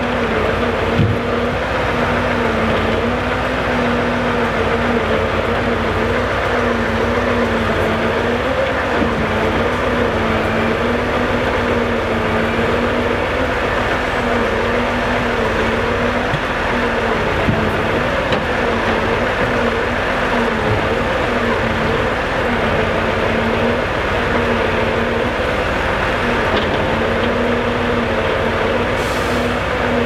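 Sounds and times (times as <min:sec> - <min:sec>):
truck engine and hydraulic pump hum: 0:00.0 - 0:30.0.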